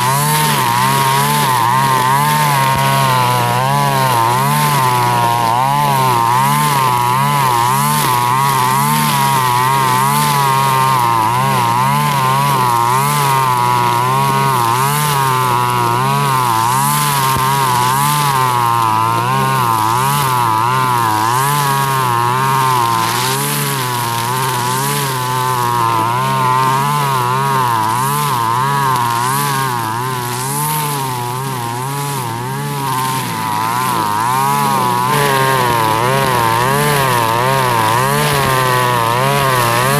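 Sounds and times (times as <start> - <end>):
brush cutter engine at high speed: 0.0 - 39.9.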